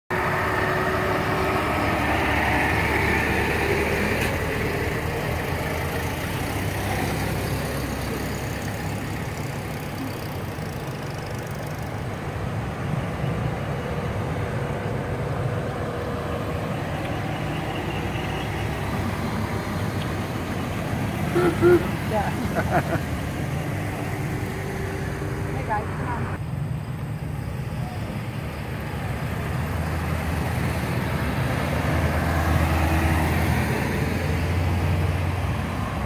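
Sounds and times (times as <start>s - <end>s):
cars rolling past slowly: 0.1s - 36.0s.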